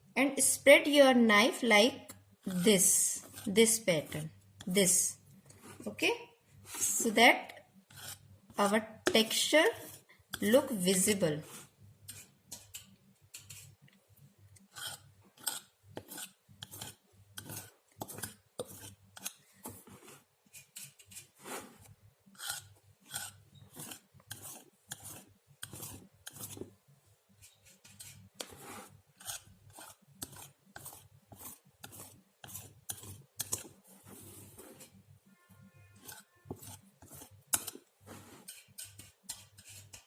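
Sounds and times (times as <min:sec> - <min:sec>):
painting knife scraping paint: 0:02.5 - 0:06.0, 0:06.6 - 0:14.0, 0:14.6 - 0:35.0, 0:35.9 - 0:40.0.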